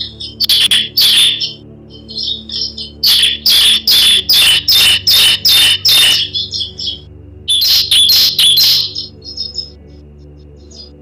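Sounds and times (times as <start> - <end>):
bird singing sharp notes: 0.0 - 9.8
soft bird twitter: 0.0 - 11.0.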